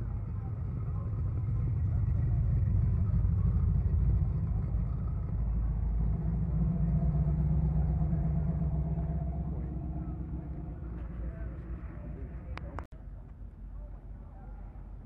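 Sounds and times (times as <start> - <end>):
steady pitched engine note: 0.0 - 12.6
car engine running low: 0.0 - 15.0.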